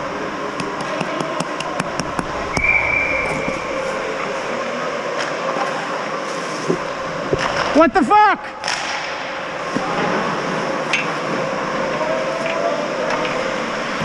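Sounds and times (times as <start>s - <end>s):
hollow ice rink noise: 0.0s - 14.0s.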